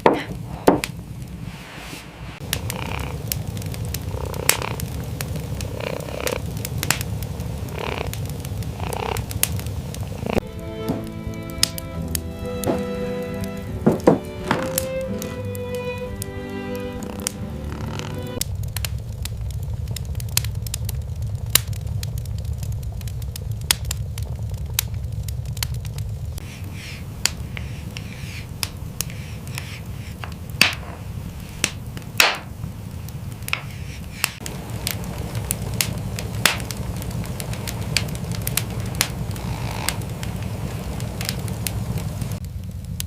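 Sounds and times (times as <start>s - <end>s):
fire pops: 0.0s - 43.0s
wood fire crackling: 0.0s - 43.0s
steady low rumble: 0.4s - 14.4s, 17.2s - 33.6s, 34.3s - 43.0s.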